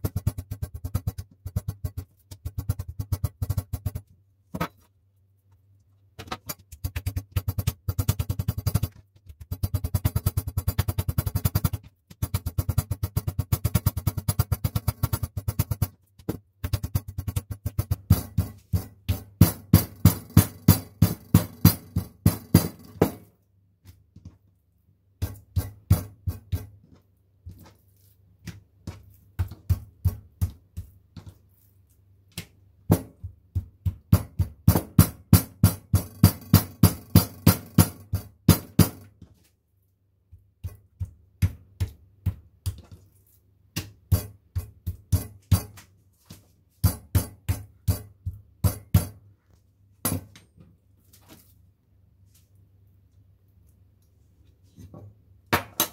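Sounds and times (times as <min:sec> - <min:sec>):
meat mallet pounding meat: 0:00.0 - 0:04.7, 0:06.2 - 0:24.4, 0:25.1 - 0:39.3, 0:40.2 - 0:45.9, 0:46.8 - 0:49.2.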